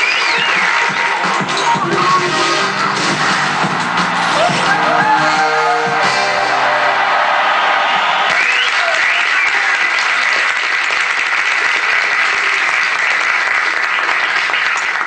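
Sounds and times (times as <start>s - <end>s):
audience applauding: 0.0s - 1.6s, 3.1s - 15.0s.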